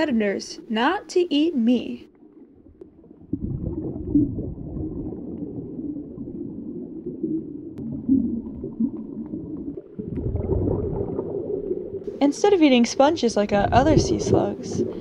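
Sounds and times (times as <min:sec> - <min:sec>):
underwater rumbling and gurgling: 0:02.0 - 0:15.0.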